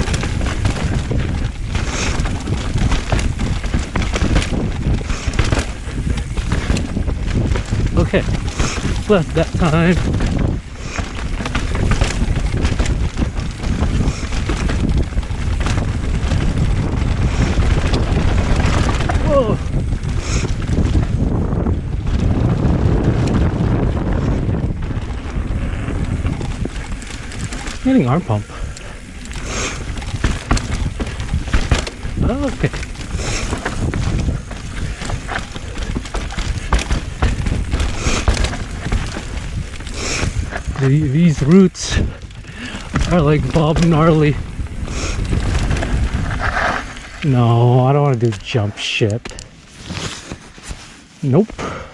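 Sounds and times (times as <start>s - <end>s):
bike knocking over bumps: 0.0s - 47.1s
mountain bike rattling: 0.0s - 51.9s
wind buffeting microphone: 0.0s - 51.9s.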